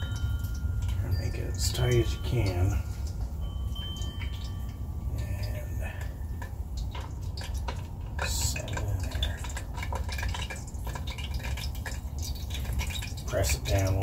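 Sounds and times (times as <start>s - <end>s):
hot oil crackling and popping: 0.0s - 14.0s.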